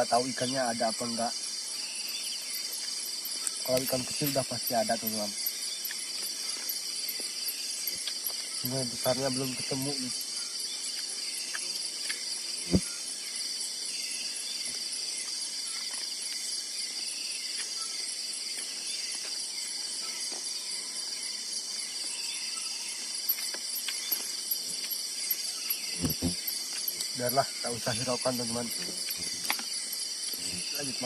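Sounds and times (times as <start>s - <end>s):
insects buzzing: 0.0s - 31.0s.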